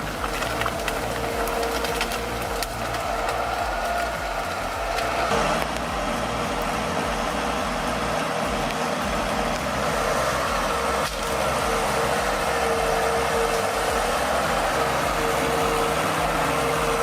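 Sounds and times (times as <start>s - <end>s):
constant whine: 0.0s - 17.0s
heavy machinery engine running: 0.0s - 17.0s.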